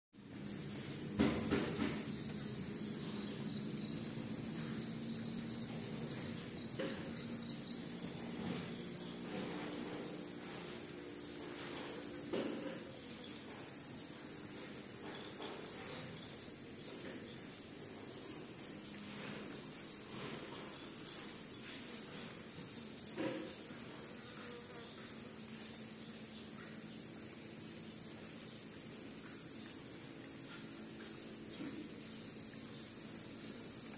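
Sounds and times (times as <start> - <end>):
cricket chirping: 0.2 - 33.9.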